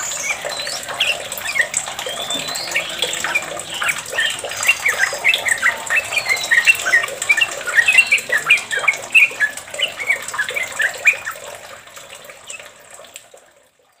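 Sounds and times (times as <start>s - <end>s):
bird chattering song: 0.0s - 12.8s.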